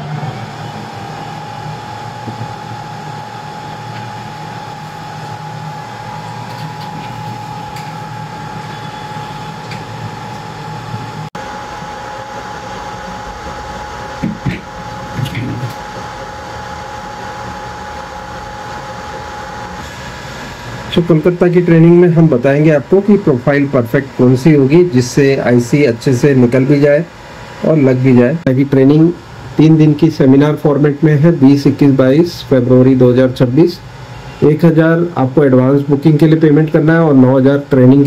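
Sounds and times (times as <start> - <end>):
hot-air blowers whining: 0.0 - 38.0.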